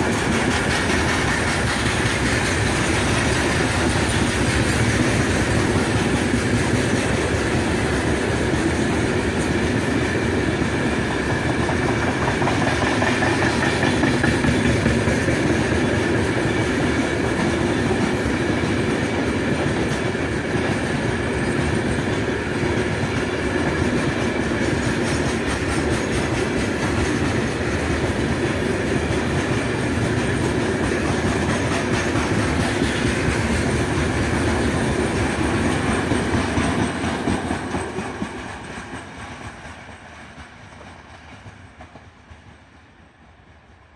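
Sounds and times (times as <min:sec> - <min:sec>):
steel wheels on rails: 0:00.0 - 0:43.6.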